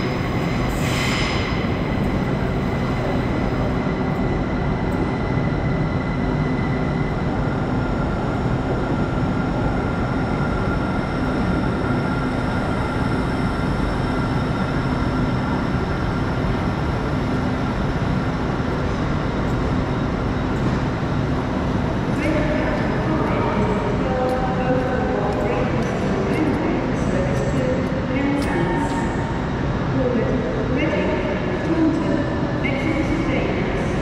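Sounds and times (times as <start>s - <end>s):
train rumble and hum: 0.0s - 34.0s.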